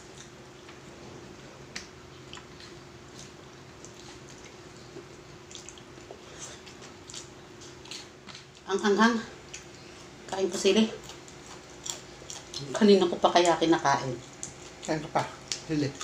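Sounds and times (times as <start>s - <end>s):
people chewing and eating: 0.0s - 16.0s
steady low hum: 0.0s - 16.0s.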